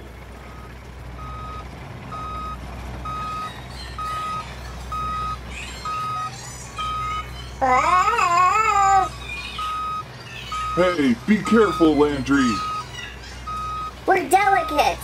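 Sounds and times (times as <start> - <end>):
truck engine rumble: 0.0 - 15.0
backup alarm beeping: 0.5 - 7.4, 9.5 - 15.0.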